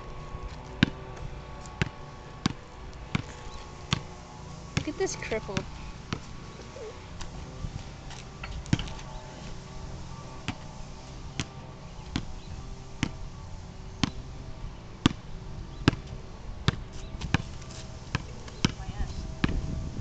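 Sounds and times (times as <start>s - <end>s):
basketball bouncing on pavement: 0.0s - 19.8s.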